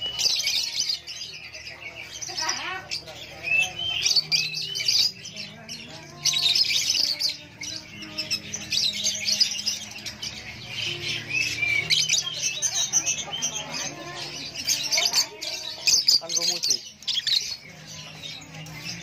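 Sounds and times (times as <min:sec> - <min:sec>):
lovebirds chirping and squawking: 0:00.0 - 0:19.0.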